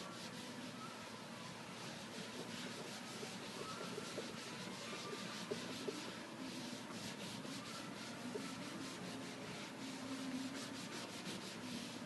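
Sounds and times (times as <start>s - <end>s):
sponge scrubbing leather: 1.8s - 12.0s.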